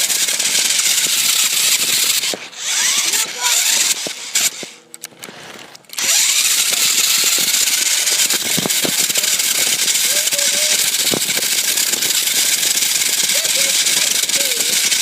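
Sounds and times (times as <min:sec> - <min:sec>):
rc car motor rushing: 0:00.0 - 0:15.0.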